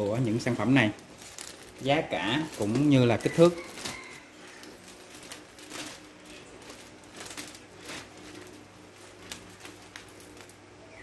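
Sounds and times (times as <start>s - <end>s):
foil balloon crinkling: 0.0s - 11.0s.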